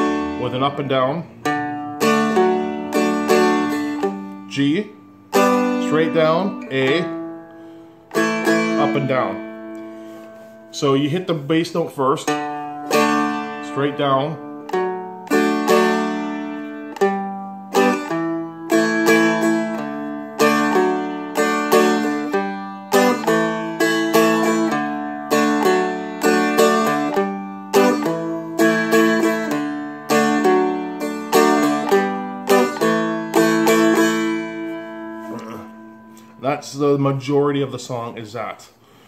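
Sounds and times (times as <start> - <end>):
strummed dulcimer chords: 0.0 - 38.1.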